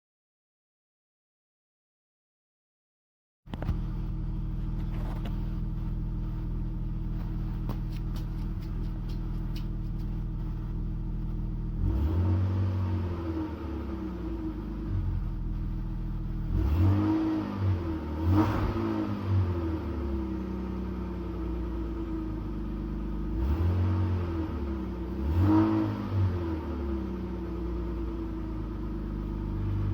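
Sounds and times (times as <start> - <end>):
car engine idling and revving: 3.5 - 29.9.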